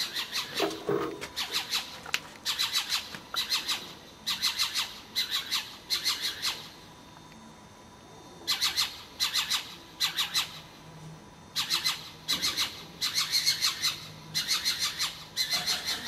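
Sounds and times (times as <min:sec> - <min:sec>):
owl calling: 0:00.0 - 0:06.8, 0:08.4 - 0:10.7, 0:11.5 - 0:16.0.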